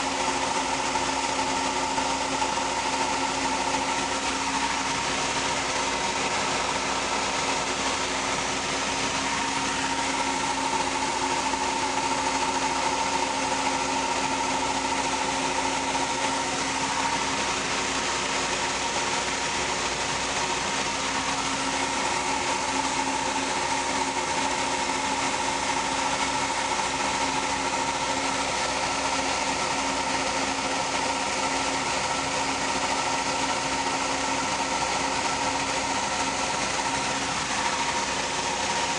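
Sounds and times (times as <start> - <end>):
combine harvester humming: 0.0 - 38.9.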